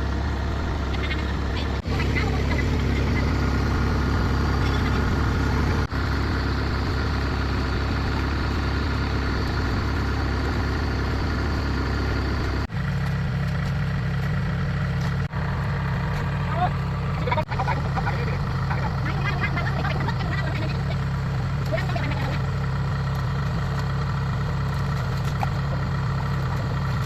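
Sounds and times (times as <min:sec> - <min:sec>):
combine harvester diesel engine: 0:00.0 - 0:27.0.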